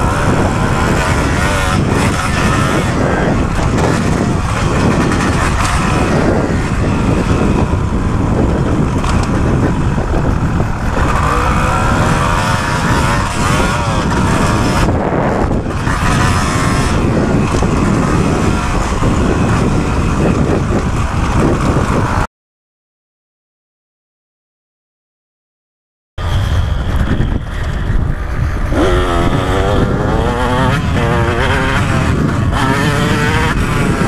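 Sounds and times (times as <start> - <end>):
motocross bike engine revving: 0.0 - 22.3, 26.2 - 34.0.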